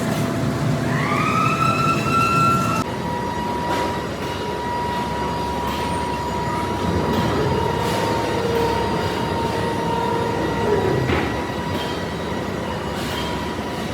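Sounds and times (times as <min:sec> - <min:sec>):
continuous machine noise: 0:00.0 - 0:13.9
machinery whine: 0:00.0 - 0:13.9.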